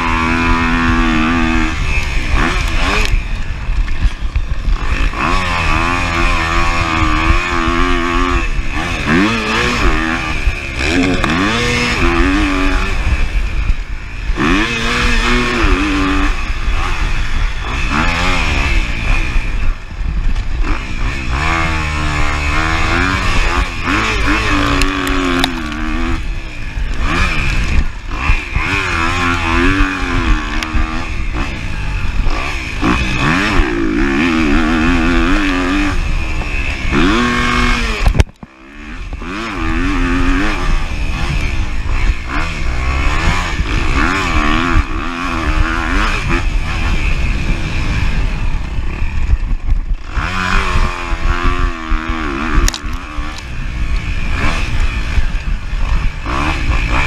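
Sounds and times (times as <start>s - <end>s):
motorcycle engine revving: 0.0s - 57.0s
wind and dirt noise: 0.0s - 57.0s.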